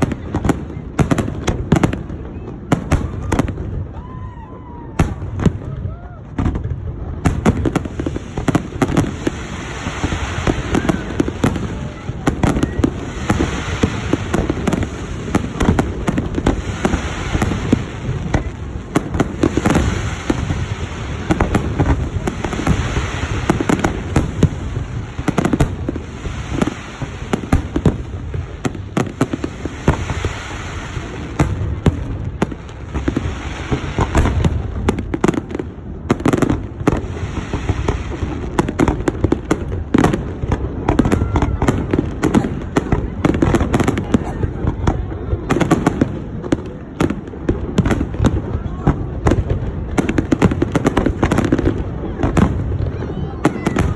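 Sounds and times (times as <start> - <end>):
fireworks booming: 0.0 - 53.9
fireworks crackling: 0.0 - 53.9.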